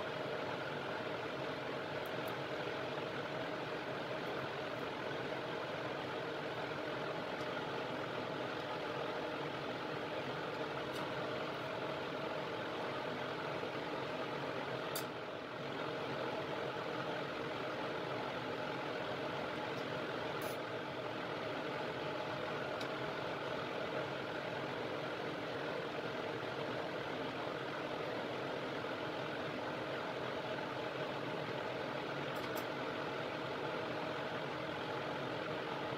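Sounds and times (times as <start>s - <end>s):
blower fan humming: 0.0s - 35.9s.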